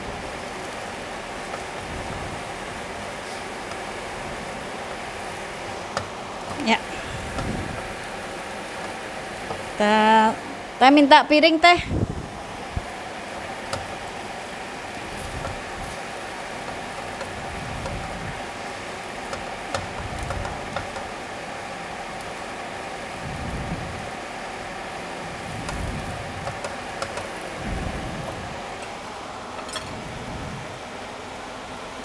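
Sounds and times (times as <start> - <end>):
shrimp sizzling in a pan: 0.0 - 10.8, 12.3 - 30.2
range hood fan humming: 0.0 - 32.0.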